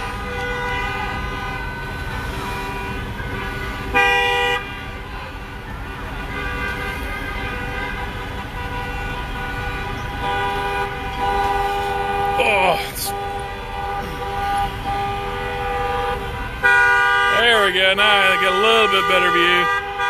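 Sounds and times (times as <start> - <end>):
car horns honking: 0.0 - 20.0
vehicle traffic rumble: 0.0 - 20.0.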